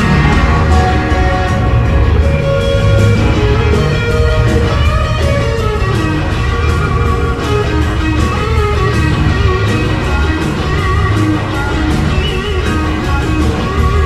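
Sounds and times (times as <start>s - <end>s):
blues-rock band playing: 0.0s - 14.0s.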